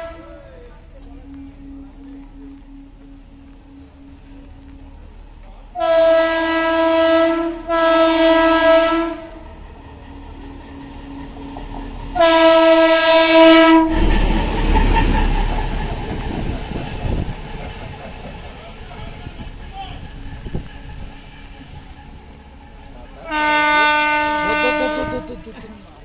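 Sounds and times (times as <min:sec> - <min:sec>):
train horn blasts: 0:00.0 - 0:17.4, 0:19.0 - 0:25.5
train wheels rumbling on rails: 0:00.0 - 0:26.0.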